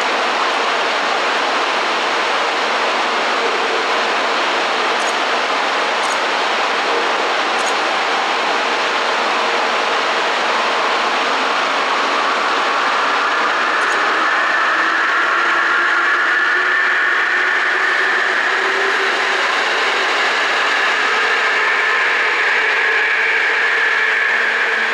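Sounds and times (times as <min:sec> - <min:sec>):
high motor whine: 0:00.0 - 0:24.9.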